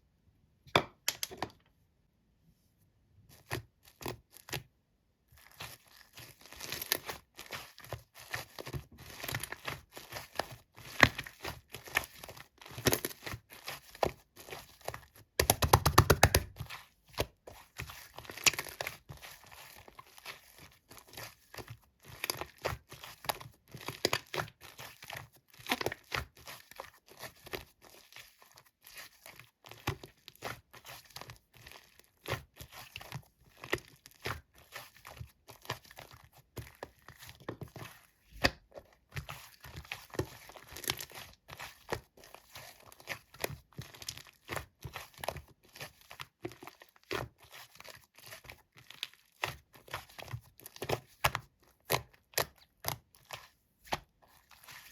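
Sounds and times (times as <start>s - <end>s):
slime squished by hand: 5.4s - 54.9s.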